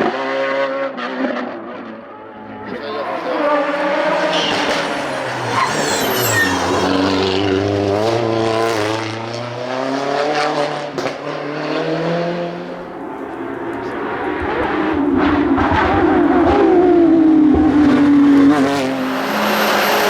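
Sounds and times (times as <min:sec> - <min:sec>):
race car engine pulling hard: 0:00.0 - 0:20.0.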